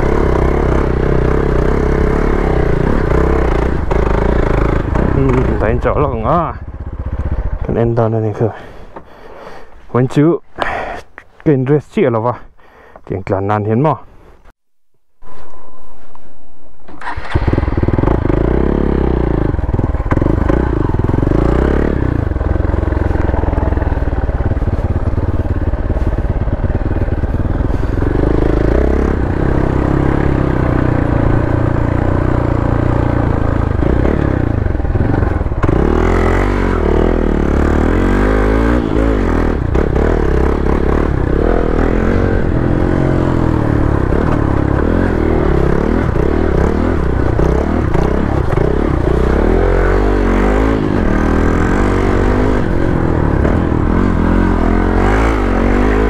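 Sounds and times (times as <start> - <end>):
motorcycle engine revving: 0.0 - 9.2, 16.9 - 56.0.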